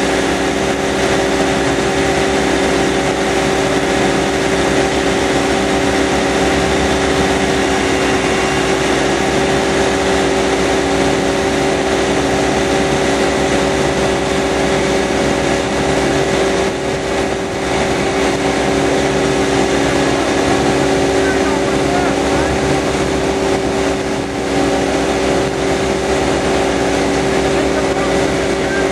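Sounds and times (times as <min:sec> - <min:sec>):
engine humming: 0:00.0 - 0:28.9
propeller wash churning water: 0:00.0 - 0:28.9.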